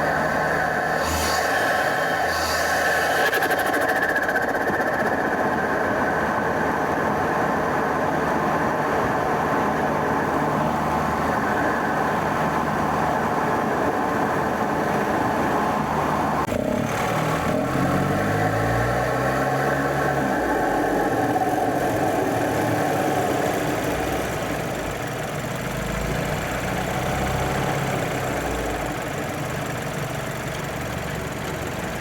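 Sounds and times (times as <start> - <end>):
car engine driving: 0.0 - 32.0
road noise: 0.0 - 32.0.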